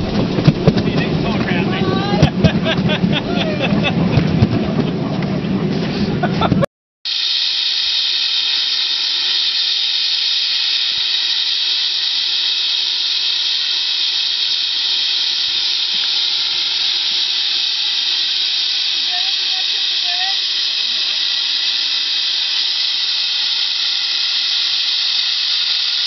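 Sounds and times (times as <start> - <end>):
steam locomotive hissing steam: 0.0 - 4.2, 7.1 - 26.0.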